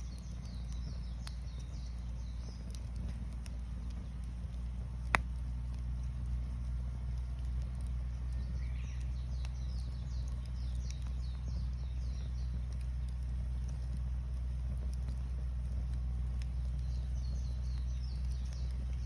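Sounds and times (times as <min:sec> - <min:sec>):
campfire crackling: 0:00.0 - 0:19.0
small birds chirping: 0:00.0 - 0:19.0.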